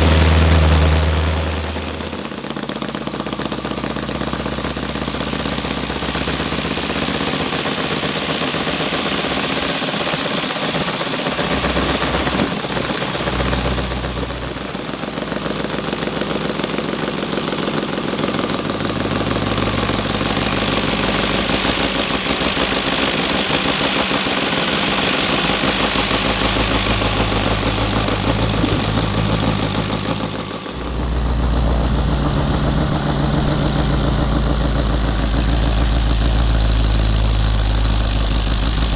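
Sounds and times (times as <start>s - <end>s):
model radial engine running: 0.0s - 38.9s.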